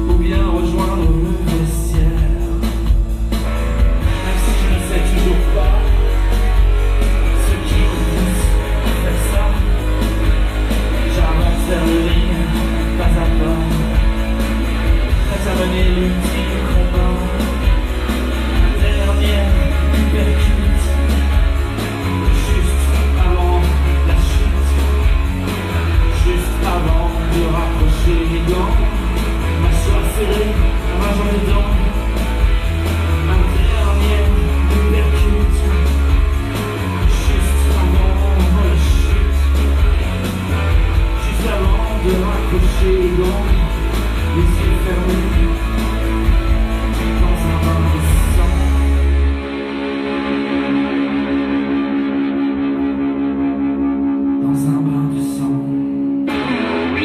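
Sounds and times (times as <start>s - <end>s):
person singing: 0.0s - 3.2s, 4.0s - 53.0s, 53.8s - 57.0s
bass and drum beat: 0.0s - 49.6s
electric guitar: 0.0s - 57.0s
live rock band: 0.0s - 57.0s.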